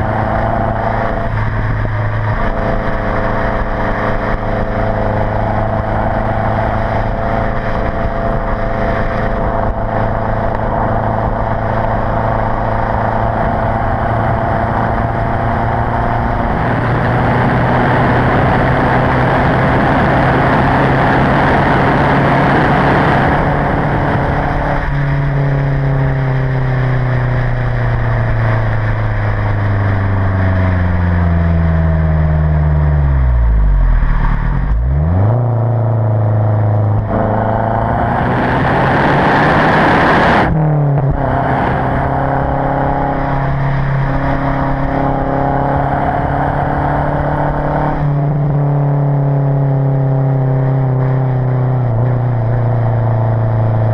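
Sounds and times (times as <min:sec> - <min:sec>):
car exhaust drone: 0:00.0 - 0:53.9.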